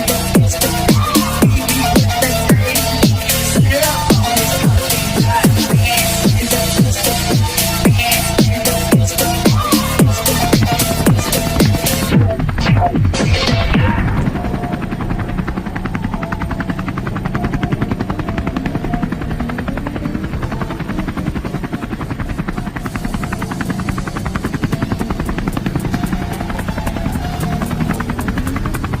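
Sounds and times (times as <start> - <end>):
helicopter rotor blades beating: 0.0 - 29.0.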